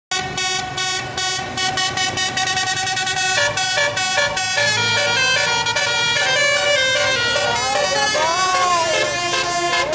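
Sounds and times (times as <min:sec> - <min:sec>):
multi-tone air horn tune: 0:00.1 - 0:09.9.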